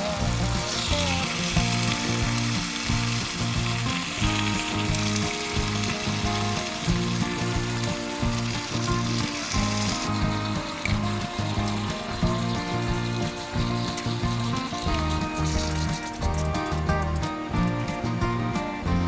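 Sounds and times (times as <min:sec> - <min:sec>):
bacon sizzling in a skillet: 0:00.0 - 0:17.3
background music: 0:00.0 - 0:19.0.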